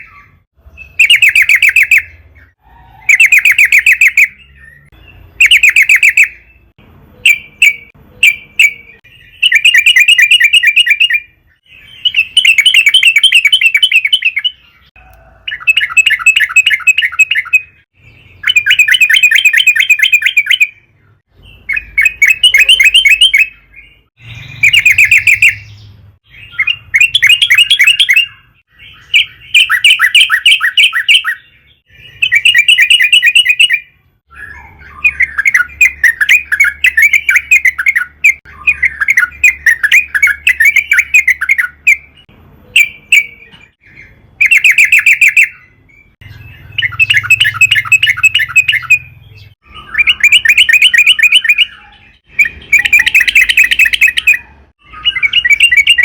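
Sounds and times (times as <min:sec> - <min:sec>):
bulbul chattering song: 0:00.0 - 0:56.0.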